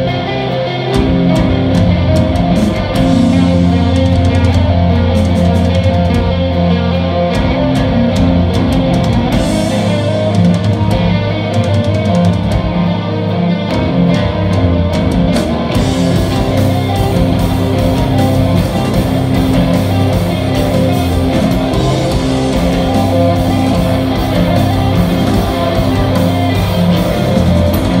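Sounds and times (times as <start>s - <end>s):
bass guitar: 0.0s - 28.0s
electric guitars: 0.0s - 28.0s
drum kit with cymbals: 1.0s - 12.9s, 13.7s - 28.0s.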